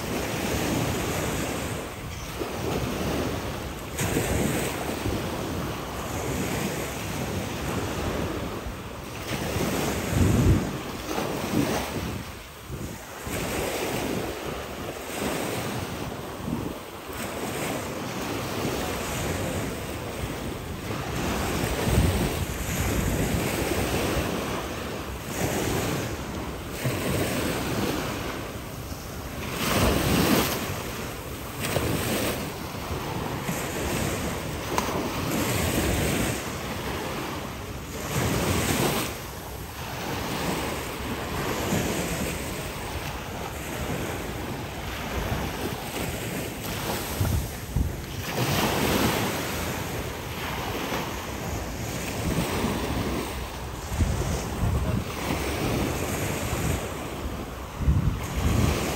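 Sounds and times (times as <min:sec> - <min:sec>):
surf washing onto beach: 0:00.0 - 0:58.9
wind buffeting microphone: 0:00.0 - 0:58.9.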